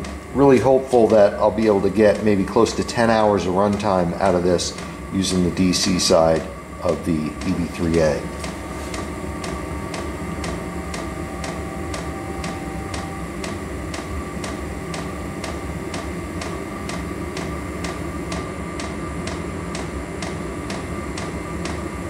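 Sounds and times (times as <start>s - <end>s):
heater blower fan: 0.0s - 22.0s.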